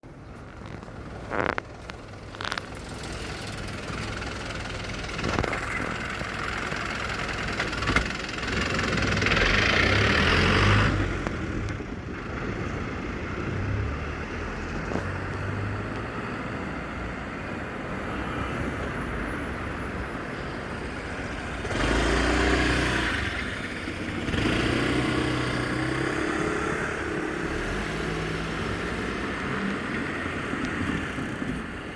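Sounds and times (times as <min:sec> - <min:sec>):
cars driving past: 0:00.6 - 0:31.9.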